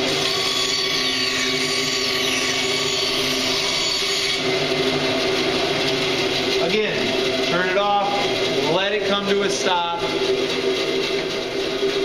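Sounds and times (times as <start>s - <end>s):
bandsaw cutting wood: 0.0s - 12.0s.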